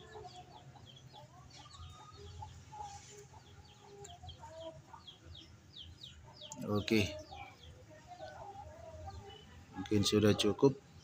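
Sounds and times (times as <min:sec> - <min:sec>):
chickens clucking: 0:00.0 - 0:11.0
small birds chirping: 0:00.0 - 0:11.0.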